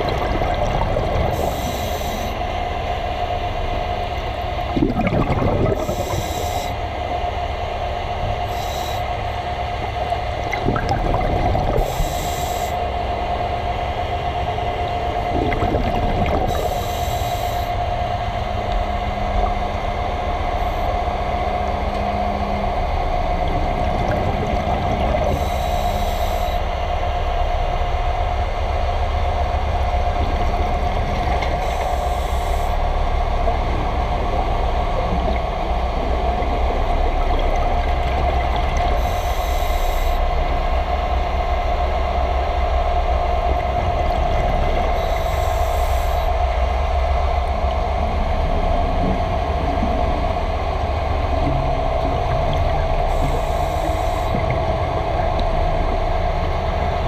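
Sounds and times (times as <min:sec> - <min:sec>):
constant hum: 0:00.0 - 0:57.0
underwater low rumble: 0:00.0 - 0:57.0.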